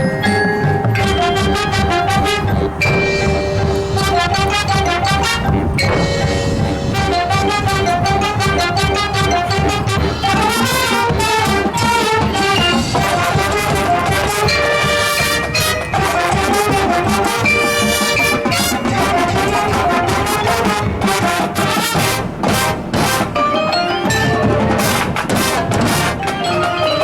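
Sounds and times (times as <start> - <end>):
brass band playing: 0.0 - 27.0
drum line: 0.0 - 27.0.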